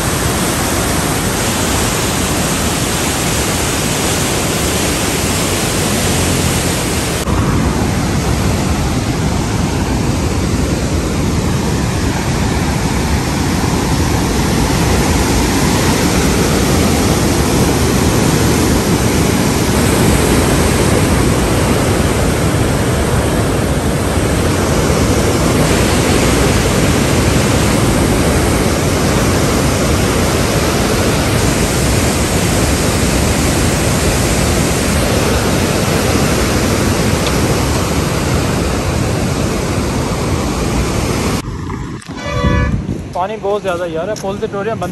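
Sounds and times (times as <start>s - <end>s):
floodwater rushing through gates: 0.0s - 41.4s.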